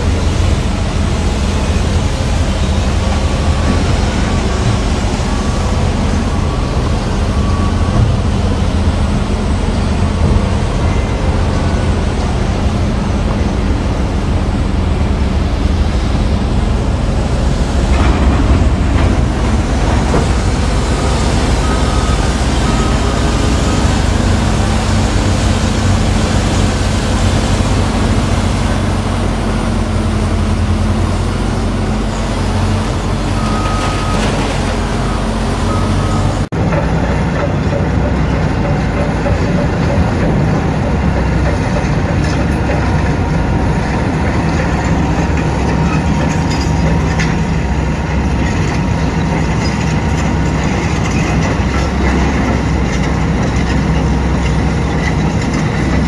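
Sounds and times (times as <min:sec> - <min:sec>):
heavy diesel engines rumbling: 0:00.0 - 0:56.0.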